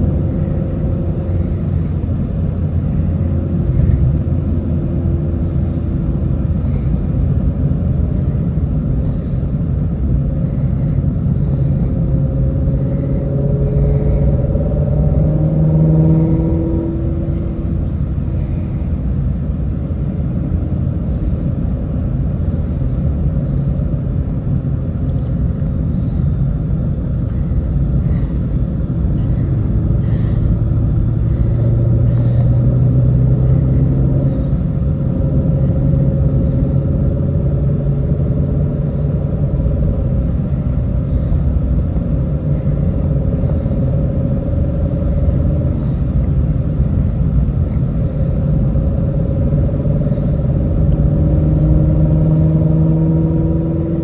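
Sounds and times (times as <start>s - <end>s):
car engine rumble: 0.0s - 54.0s
road noise inside car: 0.0s - 54.0s.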